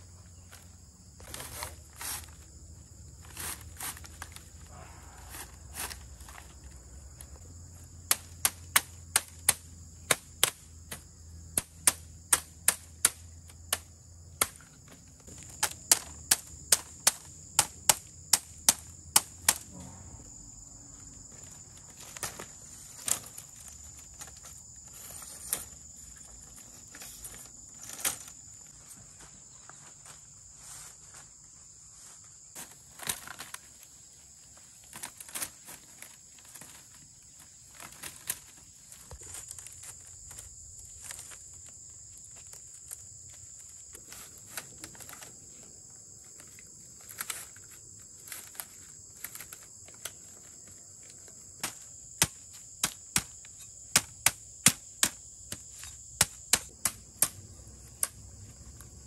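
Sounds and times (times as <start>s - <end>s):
high insect trill: 0.0s - 59.0s.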